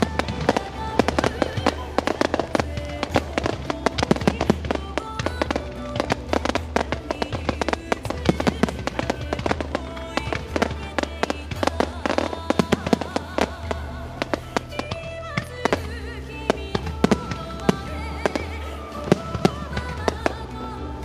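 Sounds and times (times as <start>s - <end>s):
fireworks banging and crackling: 0.0s - 21.0s
music from loudspeakers: 0.0s - 21.0s.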